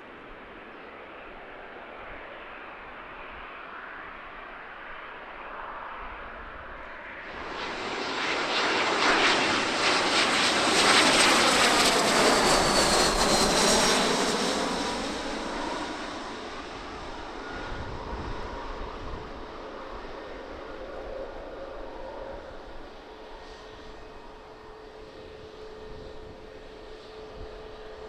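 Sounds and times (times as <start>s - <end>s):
airliner passing: 0.1s - 28.0s.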